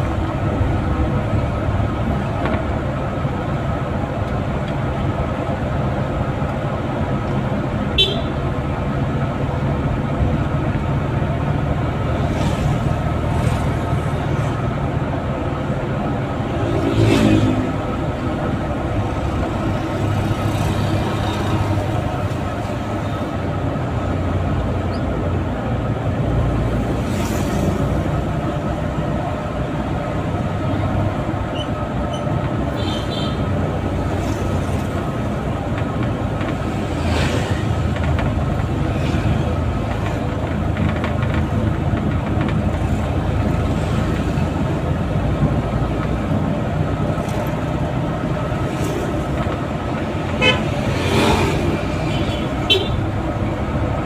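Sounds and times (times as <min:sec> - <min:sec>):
van engine and road noise: 0:00.0 - 0:54.0.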